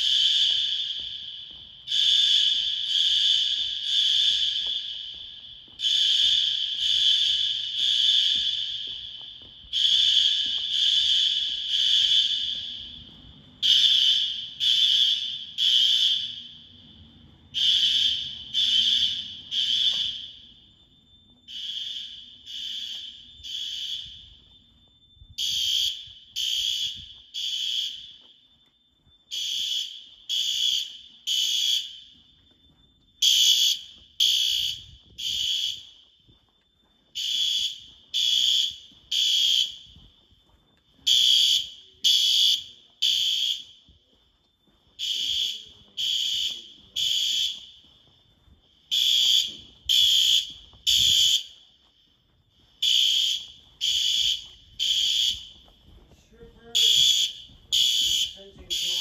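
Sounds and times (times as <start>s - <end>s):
fire alarm horn beeps: 0.0s - 44.2s, 44.9s - 51.8s, 52.6s - 59.0s.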